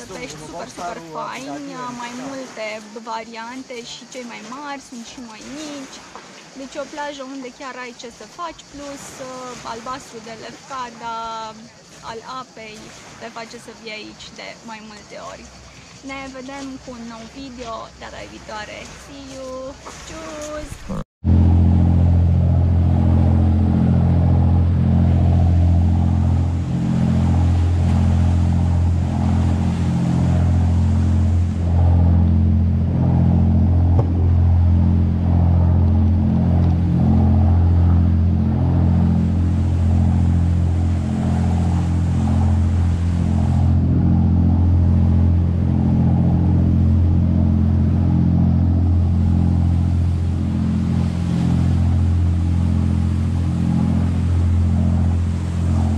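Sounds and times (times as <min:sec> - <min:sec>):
boat engine droning: 0:00.0 - 0:55.9.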